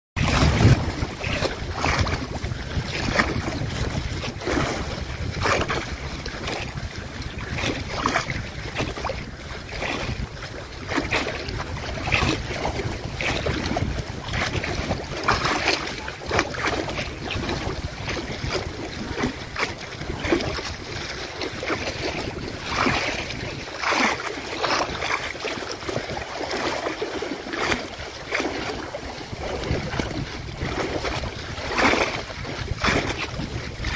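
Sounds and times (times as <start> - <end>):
waves lapping and splashing: 0.2 - 33.9
wind rumble on microphone: 0.2 - 33.9.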